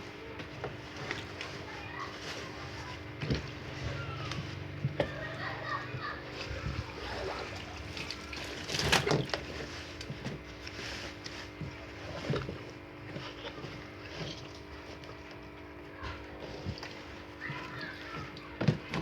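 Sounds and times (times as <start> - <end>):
washing machine hum: 0.0 - 19.0
wet cloth rustling: 0.3 - 19.0.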